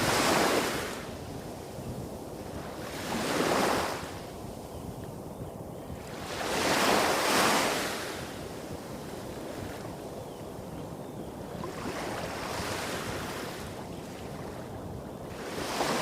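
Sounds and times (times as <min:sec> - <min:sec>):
small waves breaking on beach: 0:00.0 - 0:04.5, 0:06.1 - 0:16.0.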